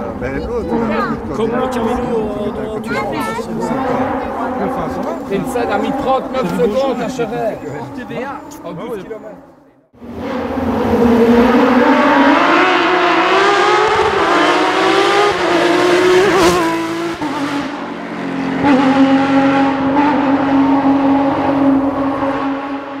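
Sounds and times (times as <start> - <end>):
car engine revving high: 0.0 - 7.2, 10.0 - 23.0.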